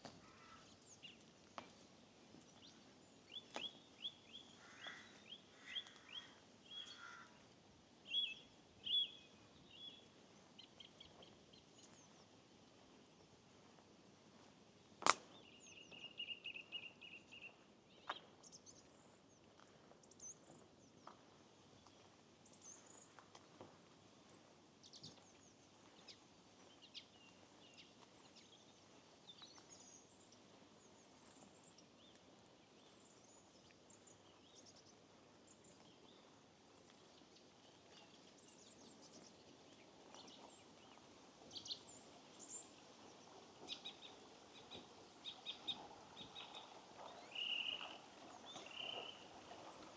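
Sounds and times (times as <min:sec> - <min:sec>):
faint background hiss: 0:00.0 - 0:49.9
songbirds chirping: 0:00.0 - 0:49.9.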